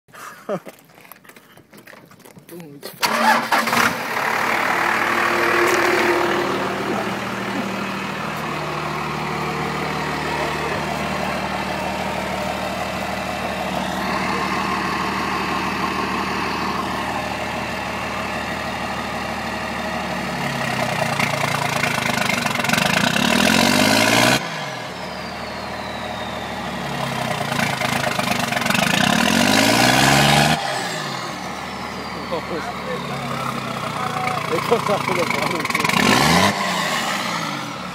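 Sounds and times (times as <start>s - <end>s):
diesel engine idling and revving: 2.6s - 37.9s.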